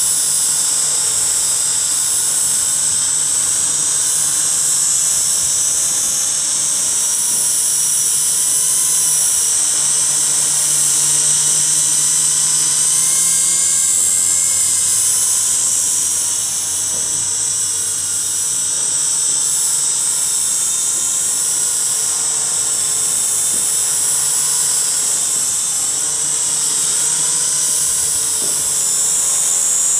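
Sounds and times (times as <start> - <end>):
quadcopter motors whining: 0.0 - 29.9.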